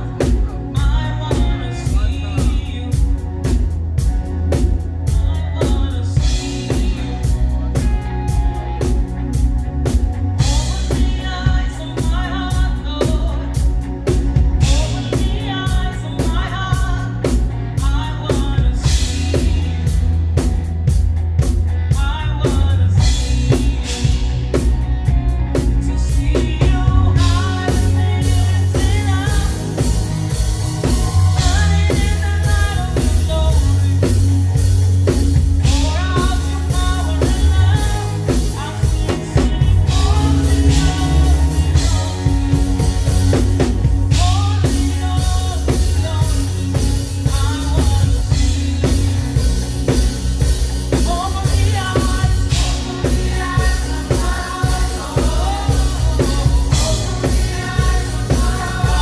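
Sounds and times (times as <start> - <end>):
bass: 0.0 - 59.0
drum kit beat: 0.0 - 59.0
live praise music: 0.0 - 59.0
person singing: 0.0 - 59.0.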